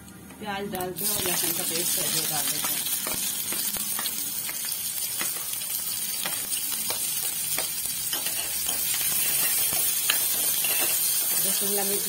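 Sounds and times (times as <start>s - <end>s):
onion sizzling in hot oil: 0.8s - 12.0s.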